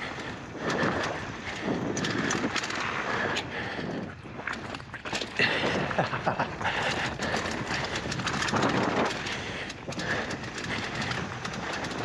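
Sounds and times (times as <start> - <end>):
bike rattling over bumps: 0.0 - 12.0
bike tyres rolling on dirt: 0.0 - 12.0
wind and trail noise: 0.0 - 12.0.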